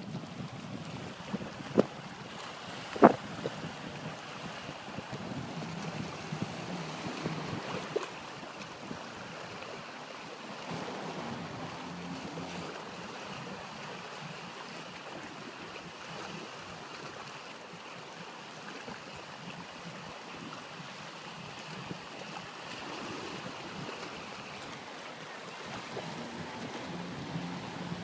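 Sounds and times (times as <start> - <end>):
wind noise on microphone: 0.0 - 9.7, 10.5 - 16.7, 20.4 - 24.7, 25.6 - 28.0
waves washing against shore: 0.0 - 28.0.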